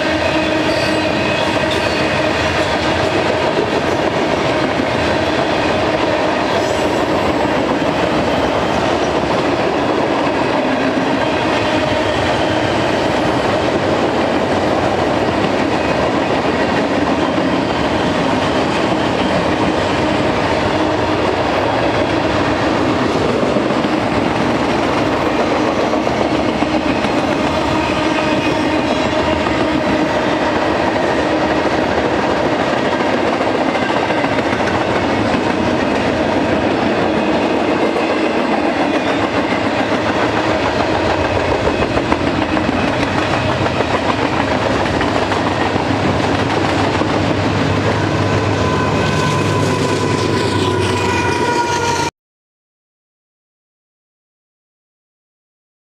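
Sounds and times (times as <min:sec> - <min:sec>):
train wheels clattering on rails: 0:00.0 - 0:51.0.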